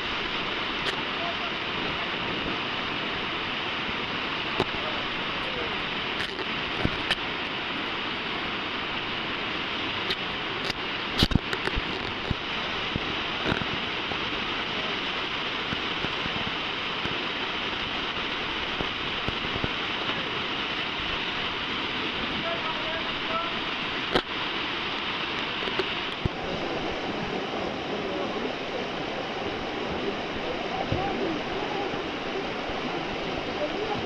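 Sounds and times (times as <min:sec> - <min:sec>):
river rapids rushing: 0:00.0 - 0:34.0.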